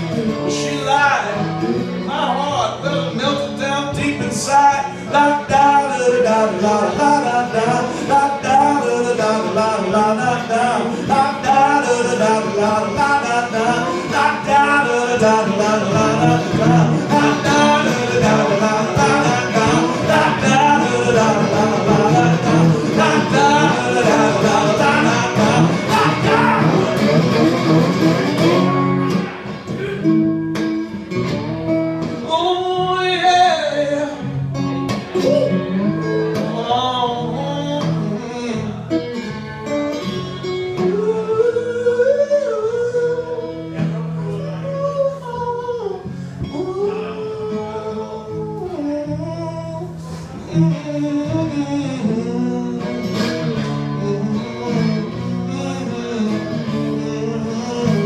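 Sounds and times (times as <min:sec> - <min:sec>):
man singing wordlessly: 0:00.0 - 0:28.8, 0:32.1 - 0:34.4, 0:35.1 - 0:39.3, 0:40.7 - 0:58.0
slide guitar: 0:00.0 - 0:58.0.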